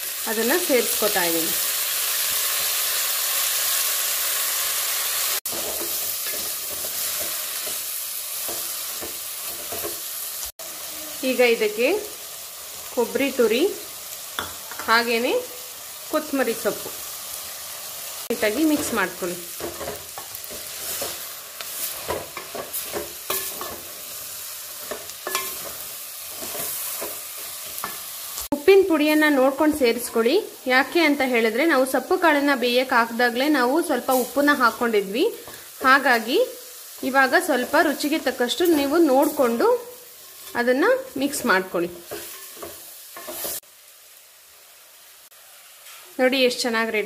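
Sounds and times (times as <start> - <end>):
onions sizzling in hot oil: 0.0 - 47.0.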